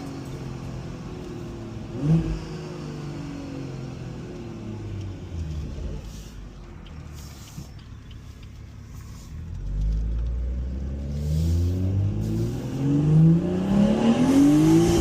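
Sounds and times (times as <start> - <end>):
car engine rumbling and accelerating: 0.0 - 15.0.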